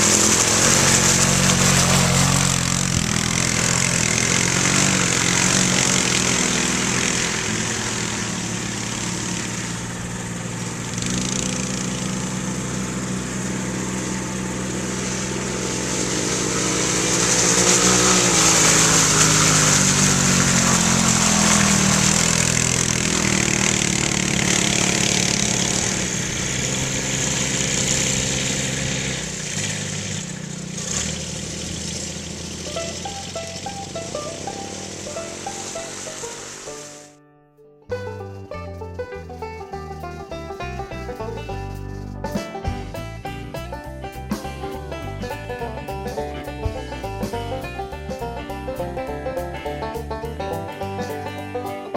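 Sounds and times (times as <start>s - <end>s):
small engine revving: 0.0s - 37.2s, 38.0s - 51.9s.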